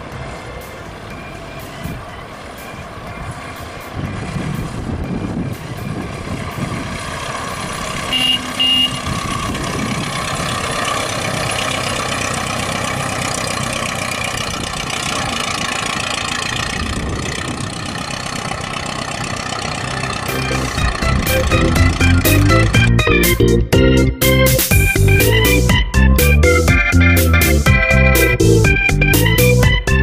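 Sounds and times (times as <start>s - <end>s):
car engine running: 0.0s - 29.9s.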